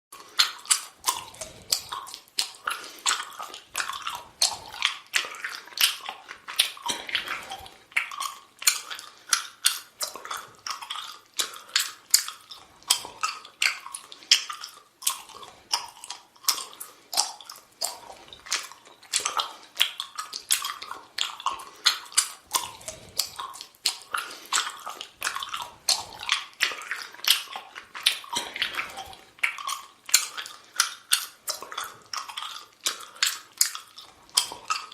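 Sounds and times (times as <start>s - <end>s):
person chewing gum: 0.1s - 34.9s.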